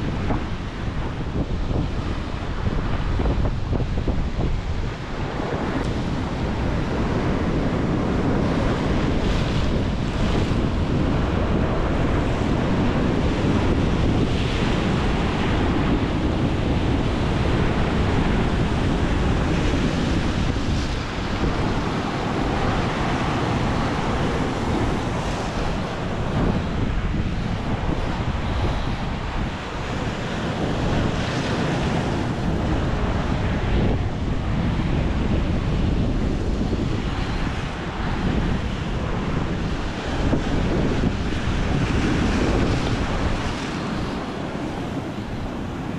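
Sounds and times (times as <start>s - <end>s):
waves washing against rocks: 0.0s - 45.9s
wind buffeting microphone: 0.0s - 45.9s.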